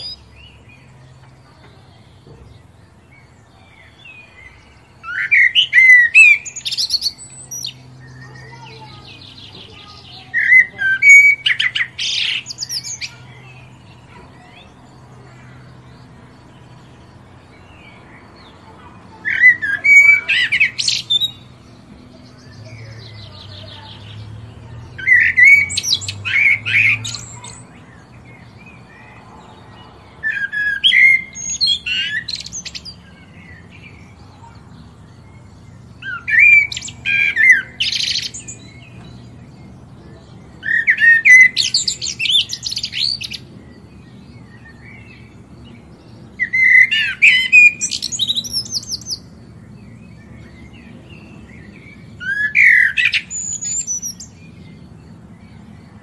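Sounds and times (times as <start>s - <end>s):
bird singing chirping phrases: 0.0s - 56.0s.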